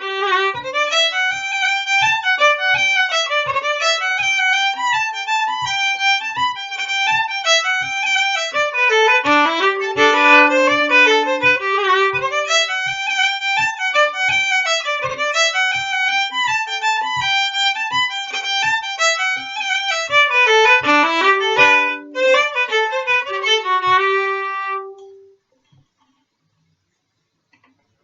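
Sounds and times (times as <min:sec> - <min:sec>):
fiddle playing a fast reel: 0:00.0 - 0:24.9.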